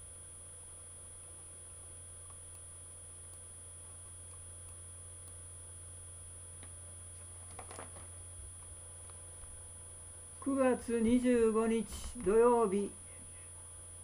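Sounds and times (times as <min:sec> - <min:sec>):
faint high whine: 0:00.0 - 0:14.0
low electrical hum: 0:00.0 - 0:14.0.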